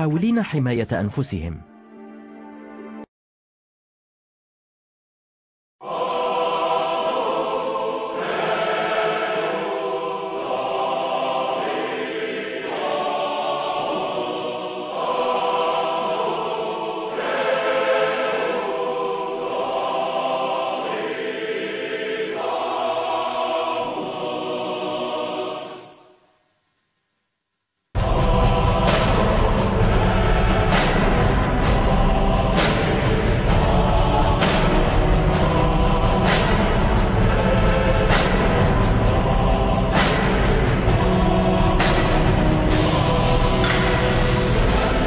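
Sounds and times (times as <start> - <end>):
choir singing sustained chords: 5.8 - 26.4, 28.0 - 45.0.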